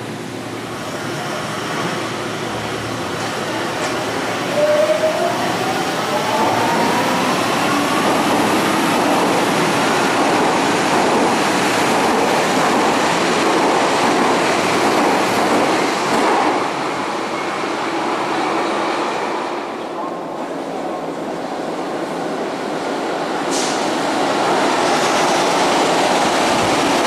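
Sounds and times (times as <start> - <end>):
loud rail noise: 0.0 - 27.0.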